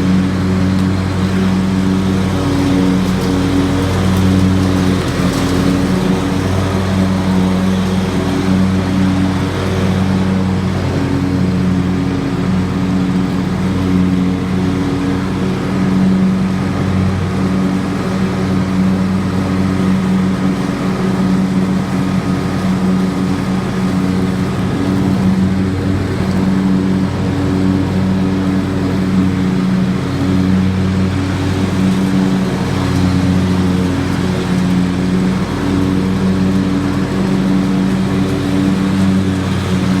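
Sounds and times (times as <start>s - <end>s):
riding lawn mower engine running: 0.0s - 40.0s.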